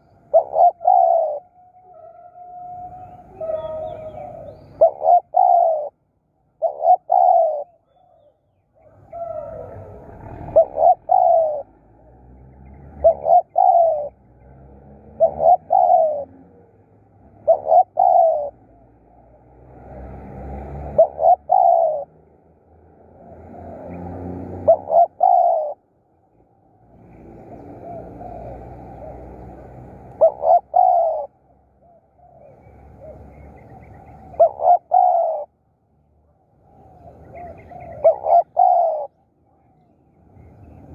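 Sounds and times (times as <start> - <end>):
dove cooing: 0.0 - 12.0, 12.6 - 22.3, 23.1 - 25.9, 26.9 - 35.6, 36.6 - 39.8.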